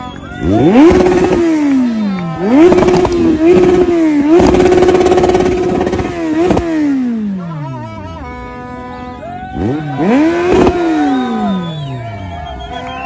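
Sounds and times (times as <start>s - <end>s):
motorcycle engine revving: 0.0s - 8.6s, 9.5s - 12.7s.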